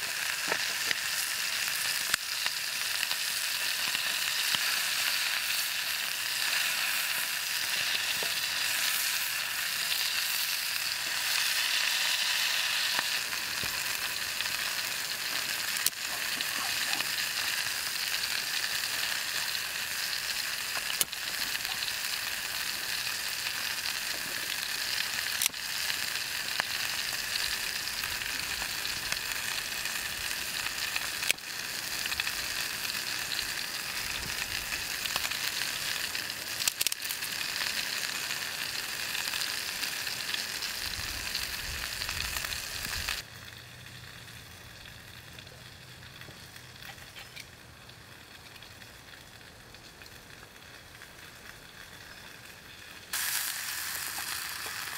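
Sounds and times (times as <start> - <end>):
meat sizzling in a pot: 0.0 - 54.9.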